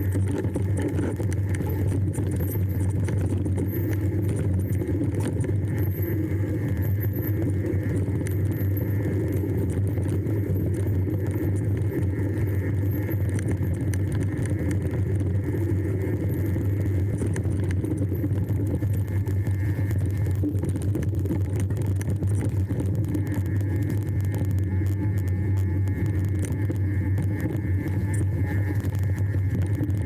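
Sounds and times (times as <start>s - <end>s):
vehicle engine: 0.0s - 30.0s.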